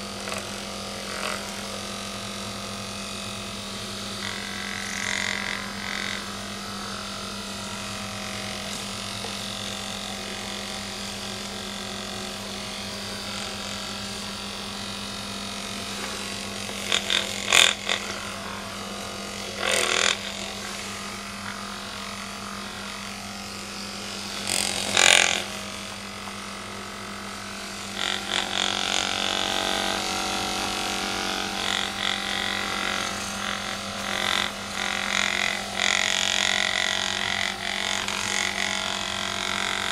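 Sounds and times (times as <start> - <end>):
massager motor humming: 0.0 - 39.9.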